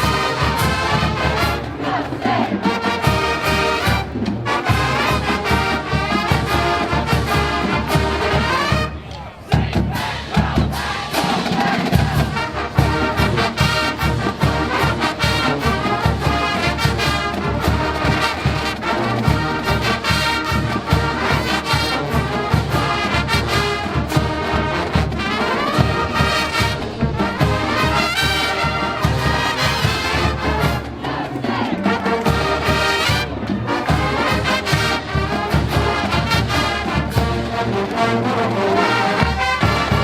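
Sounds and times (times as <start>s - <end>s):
brass section playing: 0.0s - 9.0s, 9.6s - 40.0s
drumline beating: 0.0s - 40.0s.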